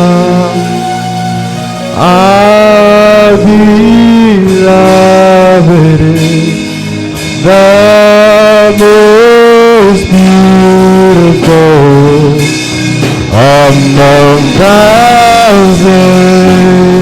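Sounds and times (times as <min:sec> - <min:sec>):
worship music with held melody: 0:00.0 - 0:17.0.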